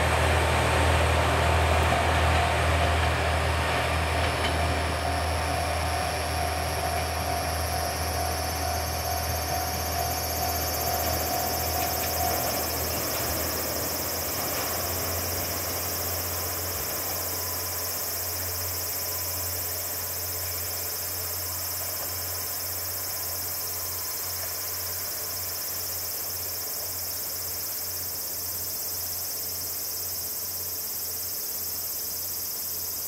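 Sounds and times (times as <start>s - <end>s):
diesel railcar engine drone: 0.0s - 33.0s
insects chorus: 0.0s - 33.0s.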